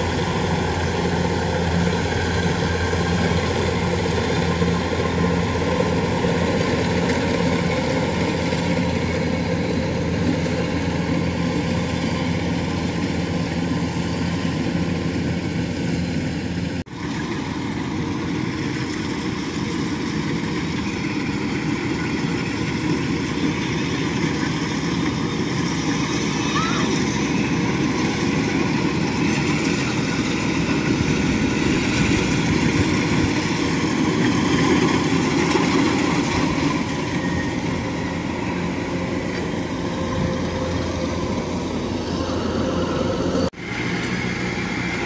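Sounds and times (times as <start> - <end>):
diesel engine humming: 0.0 - 45.0.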